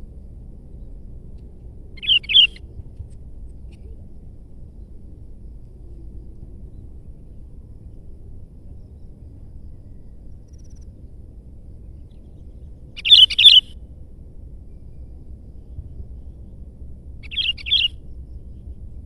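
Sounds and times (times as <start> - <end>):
faint low rumble: 0.0 - 19.0.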